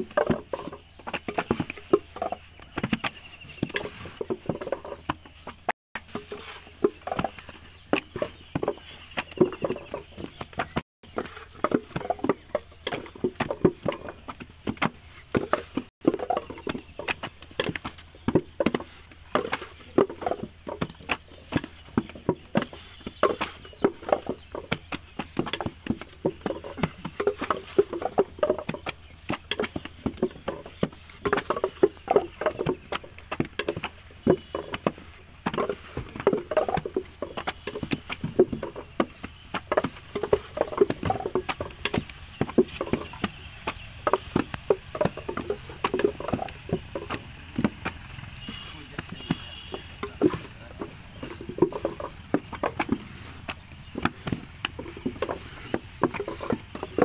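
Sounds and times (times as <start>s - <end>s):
moulds knocking on sandy ground: 0.0s - 57.0s.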